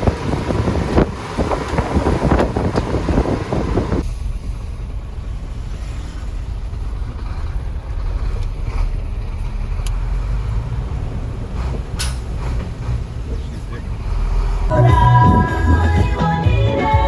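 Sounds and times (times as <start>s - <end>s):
vehicle rumble from on board: 0.0s - 17.0s.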